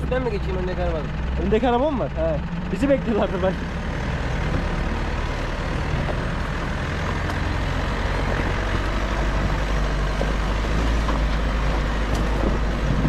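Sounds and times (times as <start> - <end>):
truck engine running at low revs: 0.0 - 13.0
tyres on dirt track: 0.0 - 13.0.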